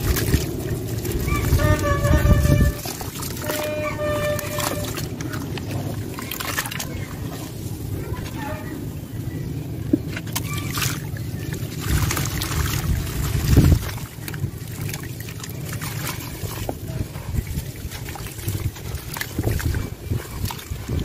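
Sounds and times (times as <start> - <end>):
steady low rumble: 0.0 - 21.0
water sloshing and splashing: 0.0 - 21.0.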